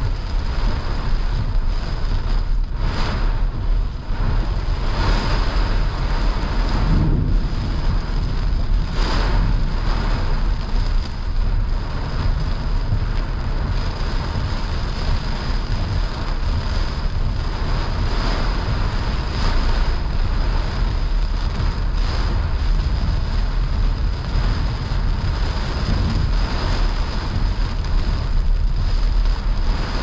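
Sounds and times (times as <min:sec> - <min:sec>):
heavy rain on a car: 0:00.0 - 0:30.0
tyres on wet road rumble: 0:00.0 - 0:30.0.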